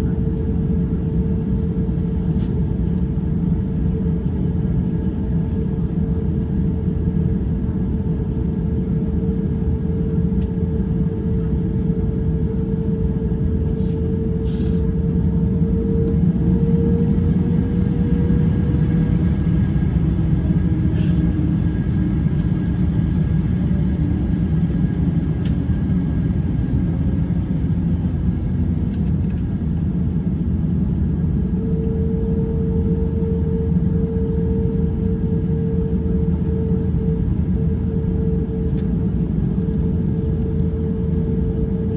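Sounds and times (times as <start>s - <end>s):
aircraft cabin engine rumble: 0.0s - 41.9s.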